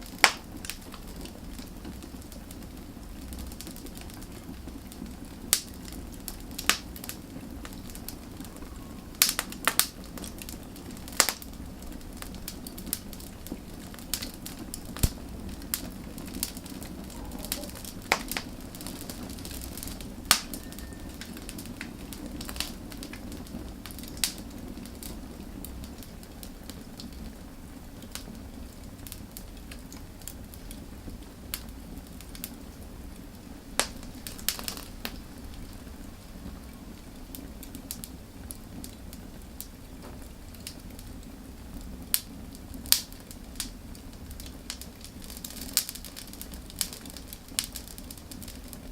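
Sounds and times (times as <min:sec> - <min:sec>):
fire crackles and pops: 0:00.0 - 0:48.9
wood fire rumble: 0:00.0 - 0:48.9.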